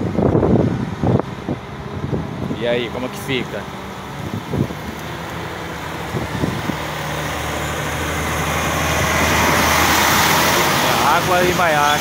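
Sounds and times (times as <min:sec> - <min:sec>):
diesel truck engine: 0:00.0 - 0:12.0.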